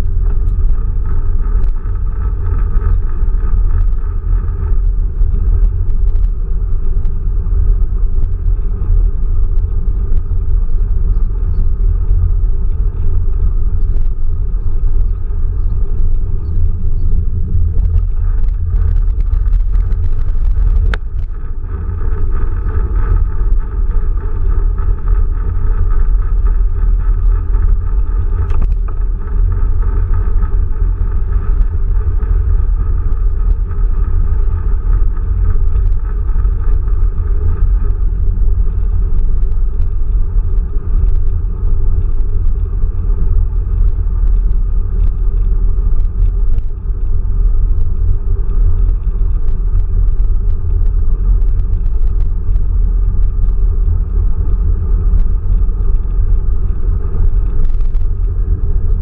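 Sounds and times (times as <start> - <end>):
tyres rumbling on asphalt: 0.0 - 59.0.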